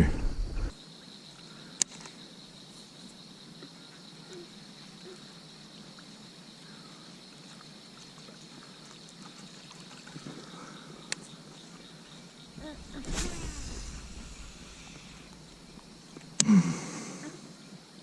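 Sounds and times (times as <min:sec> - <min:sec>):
insect hum: 0:00.0 - 0:18.0.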